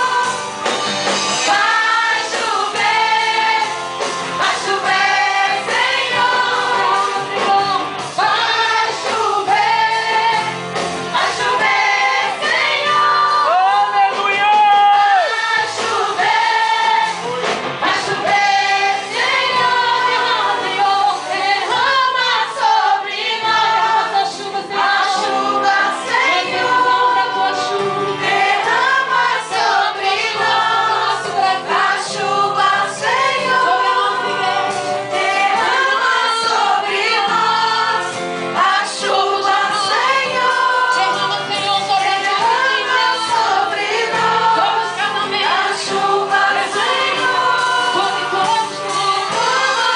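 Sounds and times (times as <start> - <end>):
group singing gospel song: 0.0 - 49.9
instrumental accompaniment: 0.0 - 49.9.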